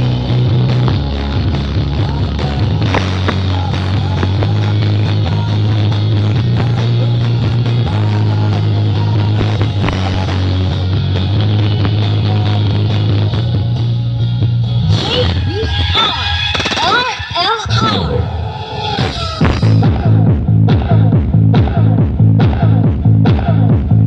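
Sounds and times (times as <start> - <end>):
deep bass note: 0.0 - 16.9, 17.7 - 24.0
loud music through speakers: 0.0 - 24.0.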